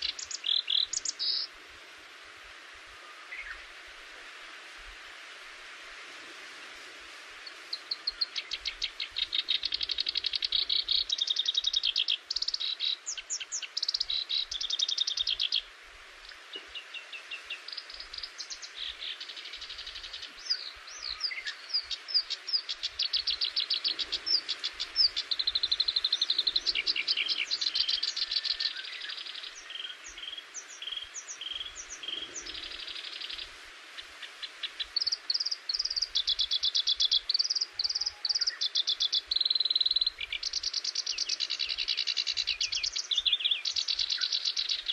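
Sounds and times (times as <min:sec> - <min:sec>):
songbird singing trills: 0:00.0 - 0:01.6, 0:07.4 - 0:44.9
steady background hiss: 0:00.0 - 0:44.9.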